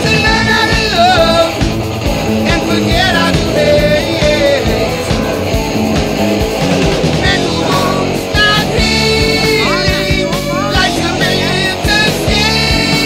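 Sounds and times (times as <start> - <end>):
person singing: 0.0 - 13.0
rock band playing: 0.0 - 13.0.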